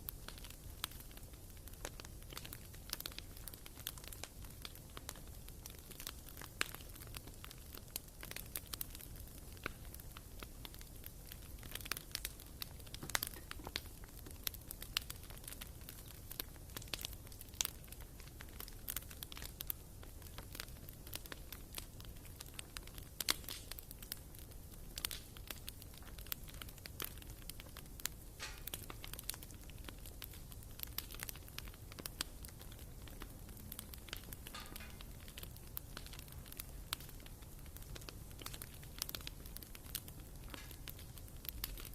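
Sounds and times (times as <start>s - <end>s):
firewood crackling and popping: 0.0s - 41.9s.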